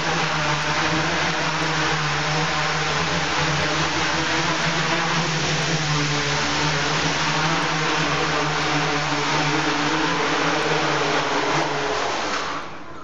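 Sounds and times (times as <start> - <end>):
quadcopter motors whirring: 0.0 - 13.0.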